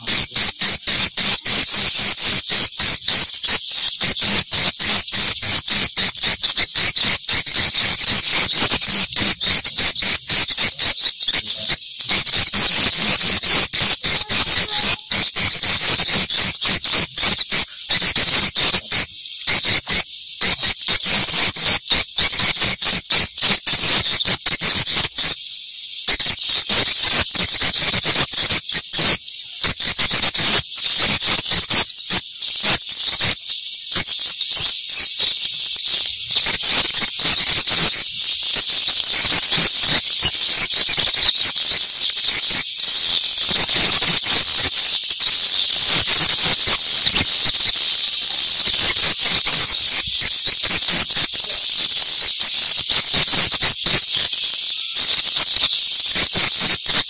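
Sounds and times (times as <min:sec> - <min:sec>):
swiftlets twittering: 0:00.0 - 0:57.0.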